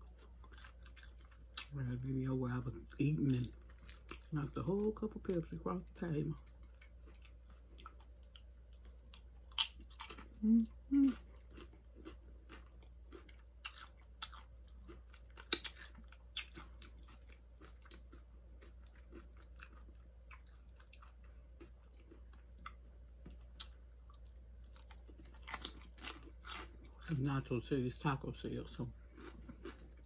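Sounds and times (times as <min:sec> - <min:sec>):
person chewing crunchy chips: 0:00.0 - 0:27.6, 0:28.6 - 0:30.0.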